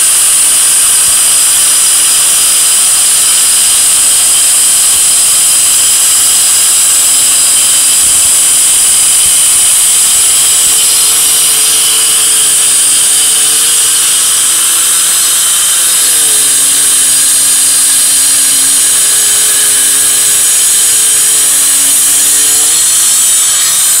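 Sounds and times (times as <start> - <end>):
electric stone cutter whining: 0.0 - 24.0.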